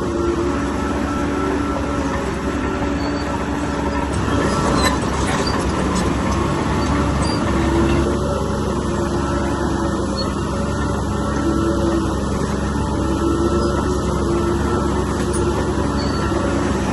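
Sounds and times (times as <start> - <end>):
bulldozer engine running: 0.0 - 16.9
steel tracks clanking and squeaking: 0.0 - 16.9.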